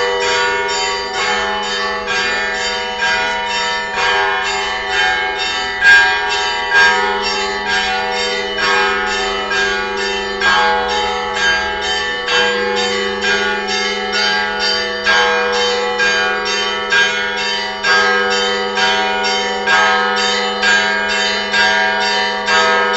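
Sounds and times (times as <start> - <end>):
hum of larger bells: 0.0 - 22.9
small church bells ringing: 0.0 - 22.9.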